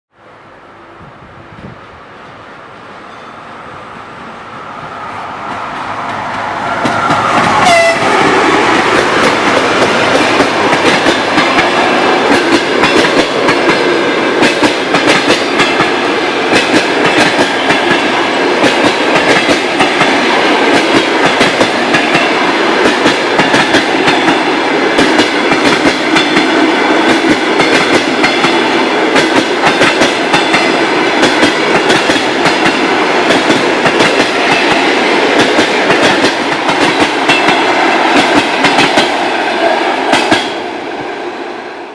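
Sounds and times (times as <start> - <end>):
electric train passing: 0.2 - 41.9
wheels clacking over rail joints: 5.5 - 39.3.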